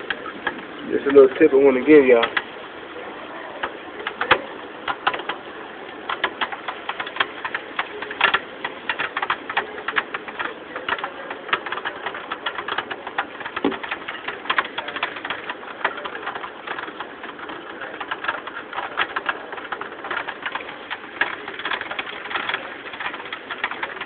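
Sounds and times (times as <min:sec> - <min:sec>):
rain tapping on hard surface: 0:00.0 - 0:24.0.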